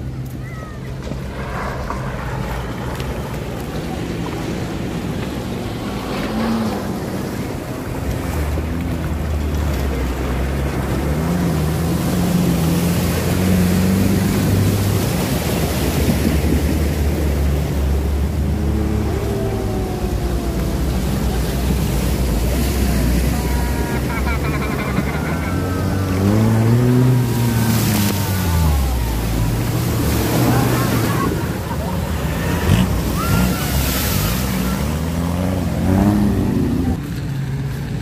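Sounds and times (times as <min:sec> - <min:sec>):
jeep engines running: 0:00.0 - 0:38.0
river current rushing: 0:00.0 - 0:38.0
water splashing around wheels: 0:00.0 - 0:38.0.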